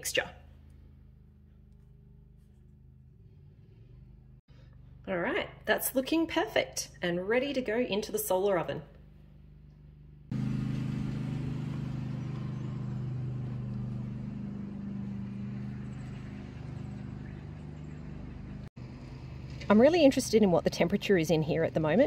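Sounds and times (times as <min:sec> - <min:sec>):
low engine hum: 0:00.1 - 0:05.4, 0:09.2 - 0:22.0.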